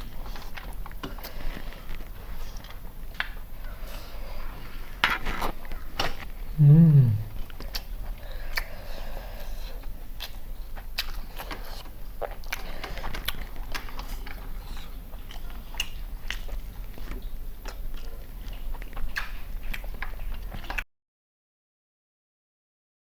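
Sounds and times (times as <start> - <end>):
crunching and wet chewing: 0.0 - 6.5, 7.3 - 20.8
low electrical hum: 0.0 - 20.8.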